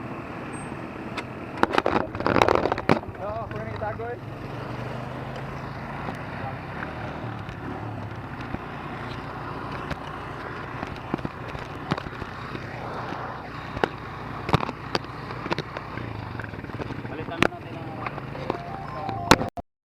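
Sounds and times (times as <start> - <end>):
atv engine running: 0.0 - 19.5
sharp clicks and knocks: 1.2 - 4.1, 5.3 - 19.6.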